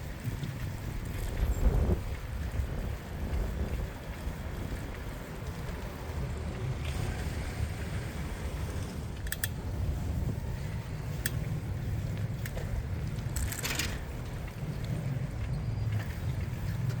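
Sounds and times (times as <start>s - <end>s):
bicycle rolling on street: 0.0s - 17.0s
wind buffeting microphone: 0.0s - 17.0s.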